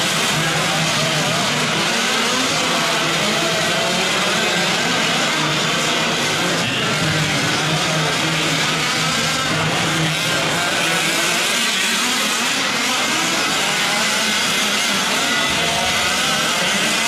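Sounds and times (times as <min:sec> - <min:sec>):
model truck engines racing: 0:00.0 - 0:17.0.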